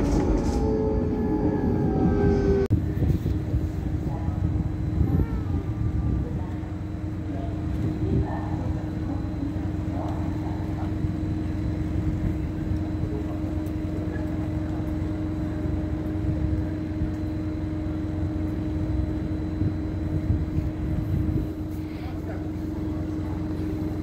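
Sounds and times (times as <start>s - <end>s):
electric train humming: 0.0s - 24.0s
low rumble: 0.0s - 24.0s.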